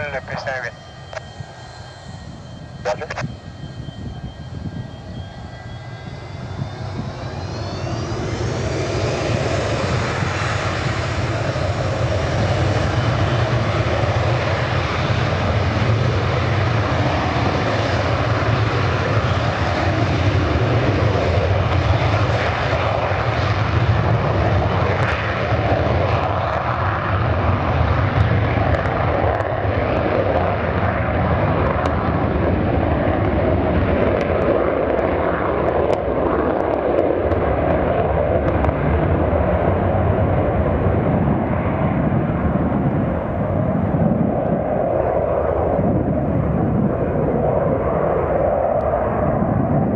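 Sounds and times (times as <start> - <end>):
jet engines spooling up: 0.0 - 49.9.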